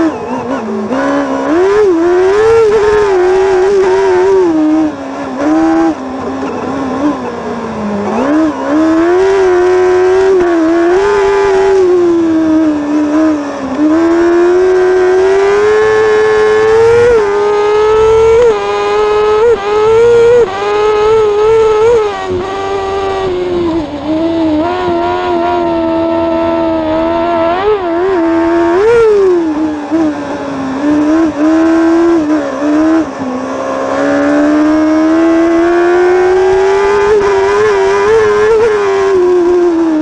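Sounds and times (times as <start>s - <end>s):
racing engine revving: 0.0s - 40.0s.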